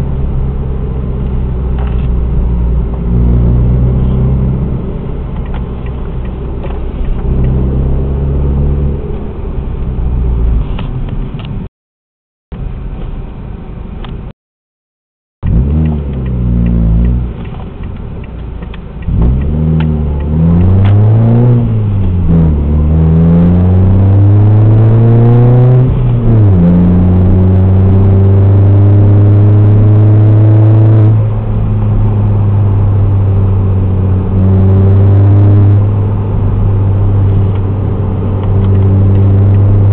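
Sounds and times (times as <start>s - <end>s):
car engine idling and revving: 0.0s - 11.7s, 15.4s - 39.9s.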